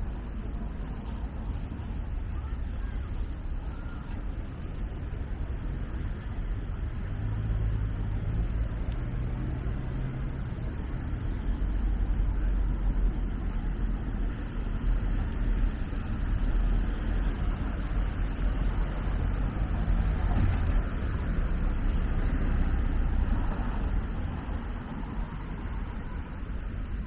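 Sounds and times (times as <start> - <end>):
cars and van driving past: 0.0 - 27.0
engine hum: 0.0 - 27.0.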